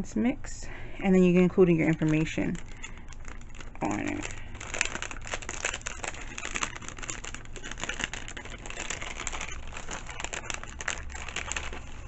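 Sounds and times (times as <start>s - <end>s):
paper and plastic crinkling: 1.2s - 12.0s.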